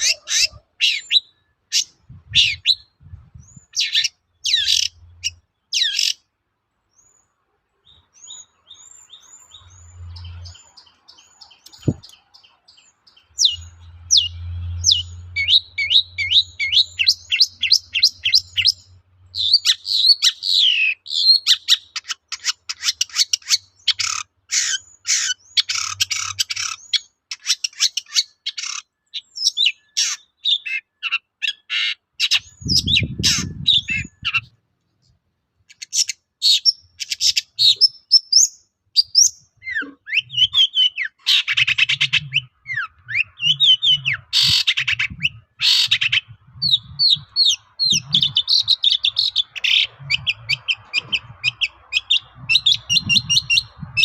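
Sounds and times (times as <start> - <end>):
shrike singing varied song: 0.0 - 34.6, 35.7 - 54.0.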